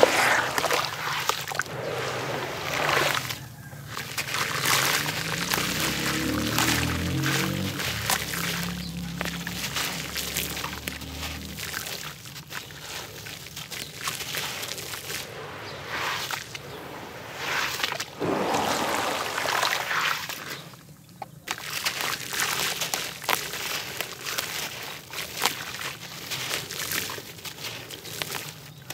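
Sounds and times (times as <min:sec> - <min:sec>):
water sloshing and splashing: 0:00.0 - 0:28.4
gritty crackles: 0:00.0 - 0:28.9.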